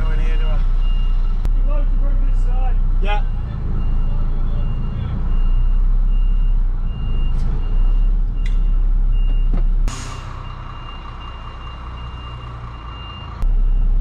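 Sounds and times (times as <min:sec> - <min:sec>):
reversing alarm beeping: 0:00.0 - 0:01.5, 0:03.1 - 0:14.0
diesel engine running: 0:00.0 - 0:14.0.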